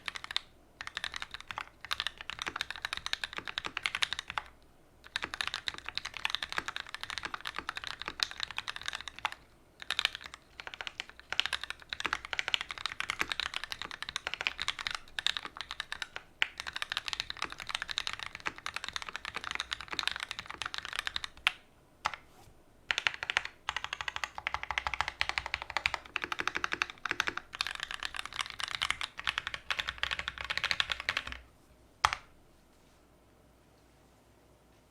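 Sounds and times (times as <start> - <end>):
fast mechanical keyboard typing: 0.0 - 22.2, 22.9 - 31.4.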